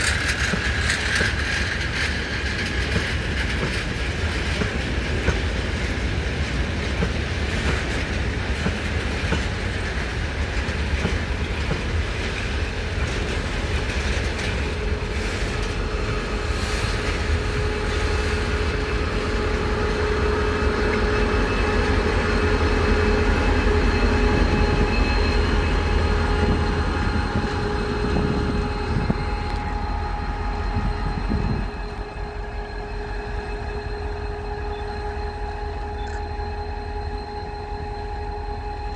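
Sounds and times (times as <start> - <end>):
train wheels clattering on rails: 0.0 - 33.3.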